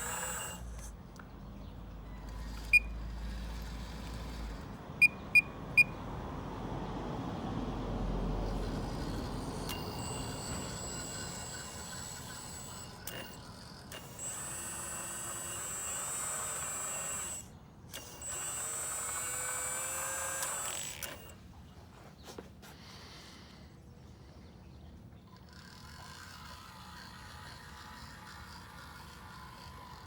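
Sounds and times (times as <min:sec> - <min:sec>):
hydraulic pump whining: 0:00.0 - 0:01.3, 0:02.0 - 0:05.9, 0:08.0 - 0:23.5, 0:25.2 - 0:30.0.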